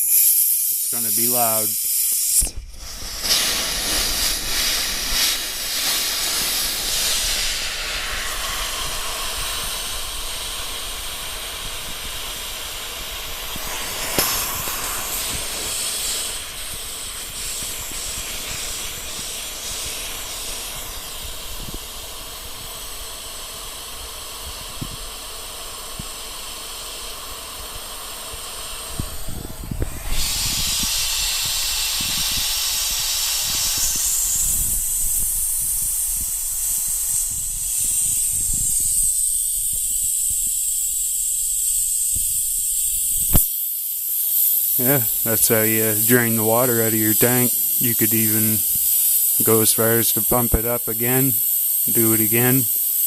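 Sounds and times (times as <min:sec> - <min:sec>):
air hissing from tank valve: 0:00.0 - 0:53.0.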